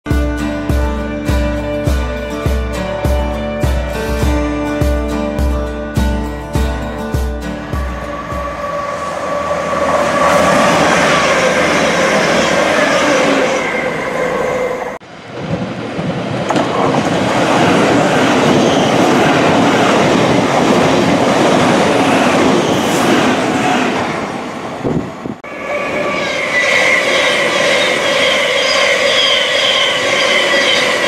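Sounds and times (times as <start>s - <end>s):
diesel train passing at speed: 0.3s - 31.0s
electric train rushing past: 0.4s - 31.0s.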